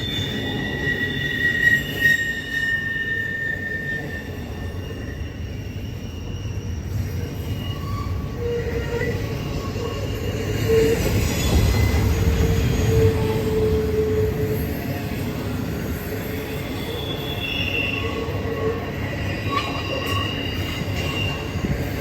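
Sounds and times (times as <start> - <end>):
train rumbling past: 0.0 - 22.0
wheels squealing on rail: 0.0 - 22.0.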